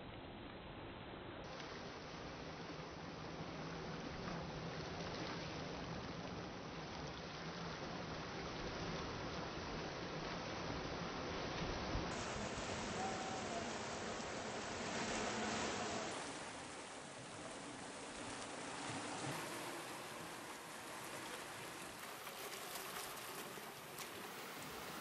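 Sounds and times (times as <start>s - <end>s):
waves washing on beach: 1.4s - 25.0s.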